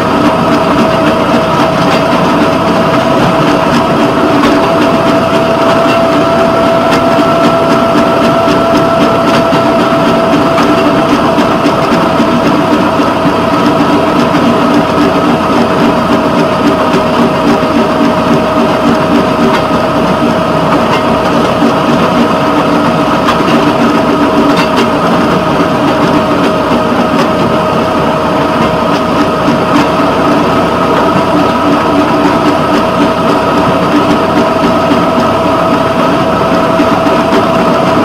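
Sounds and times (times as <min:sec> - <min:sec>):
engine drone with whine: 0:00.0 - 0:38.0
wheels rumbling on rail: 0:00.0 - 0:38.0.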